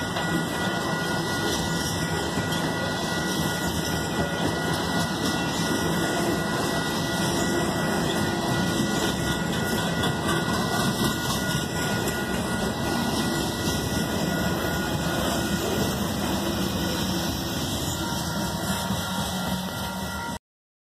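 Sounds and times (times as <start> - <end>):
freight train cars rolling past: 0.0 - 20.4.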